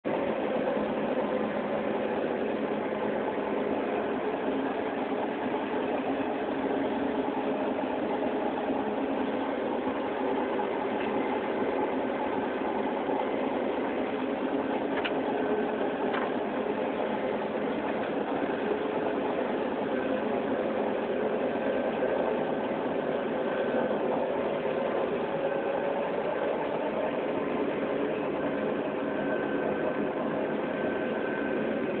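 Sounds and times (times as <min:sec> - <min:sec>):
combine harvester drone: 0:00.0 - 0:32.0.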